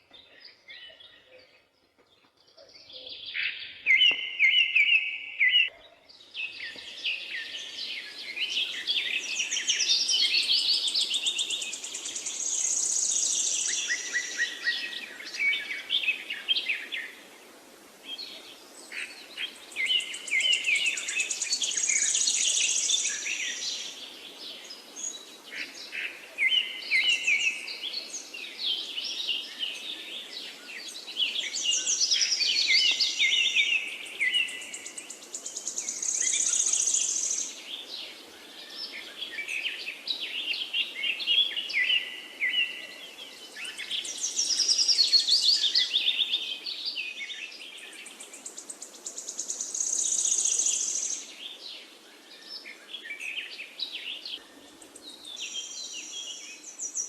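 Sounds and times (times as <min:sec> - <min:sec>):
songbirds chirping and warbling: 0:00.0 - 0:57.0.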